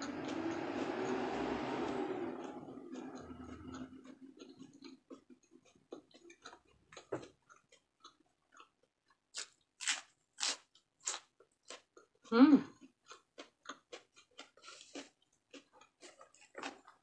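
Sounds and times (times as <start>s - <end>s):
person chewing lettuce: 0.0s - 17.0s.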